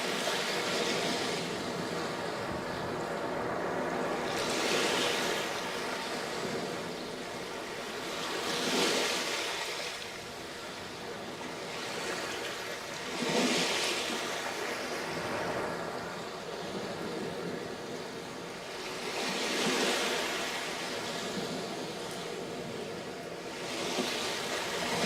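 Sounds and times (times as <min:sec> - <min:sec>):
continuous surf rush: 0:00.0 - 0:25.0
waves breaking on a beach: 0:00.0 - 0:25.0.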